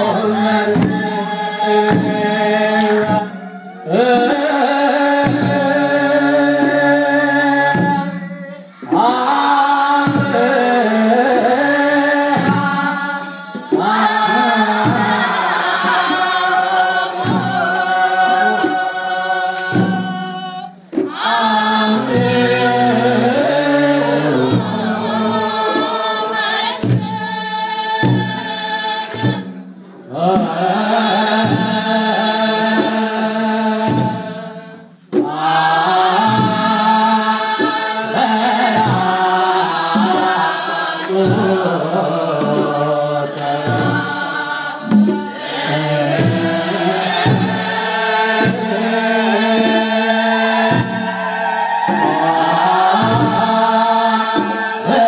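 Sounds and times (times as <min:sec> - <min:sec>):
congregation singing a hymn: 0:00.0 - 0:55.0
sharp drum strikes: 0:00.0 - 0:55.0.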